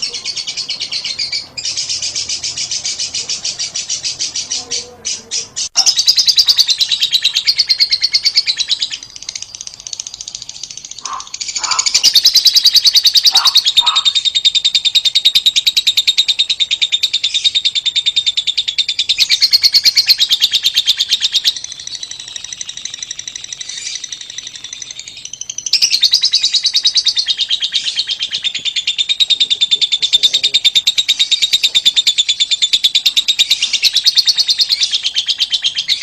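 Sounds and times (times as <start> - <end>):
lovebird rattling trill: 0.0 - 36.0.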